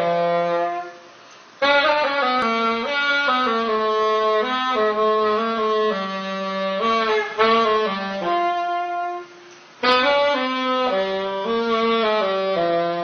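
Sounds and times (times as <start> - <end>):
solo saxophone melody: 0.0 - 13.0.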